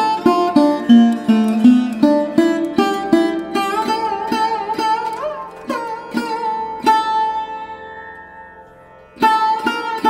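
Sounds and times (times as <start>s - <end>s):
plucked string notes: 0.0s - 10.0s.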